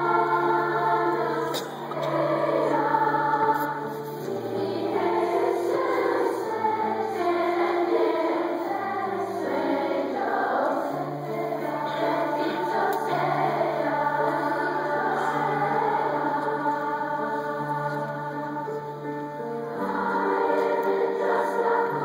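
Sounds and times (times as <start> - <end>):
children's choir singing: 0.0 - 22.0
piano: 0.0 - 22.0.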